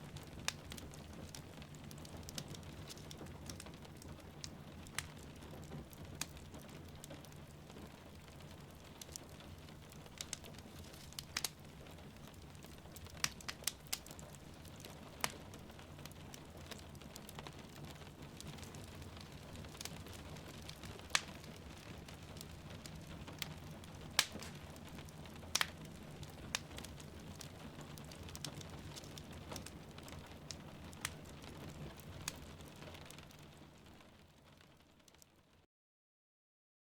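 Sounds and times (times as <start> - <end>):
wood fire crackling and popping: 0.0 - 35.6.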